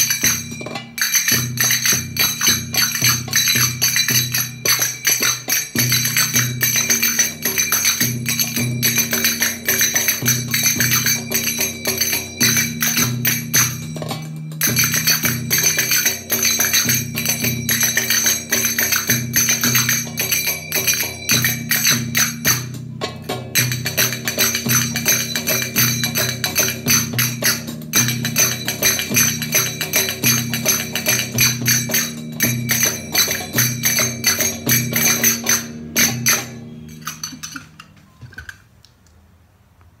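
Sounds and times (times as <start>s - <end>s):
finger cymbals struck: 0.0s - 38.2s
rhythmic backing music: 0.0s - 38.7s.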